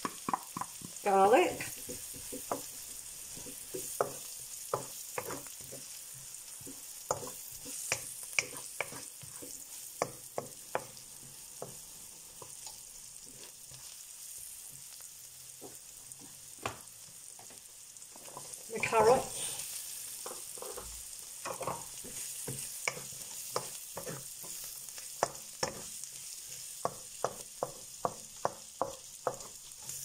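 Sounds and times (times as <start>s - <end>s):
food sizzling in a pan: 0.0s - 30.0s
spatula scraping a pan: 0.1s - 11.8s, 12.4s - 15.0s, 18.1s - 30.0s.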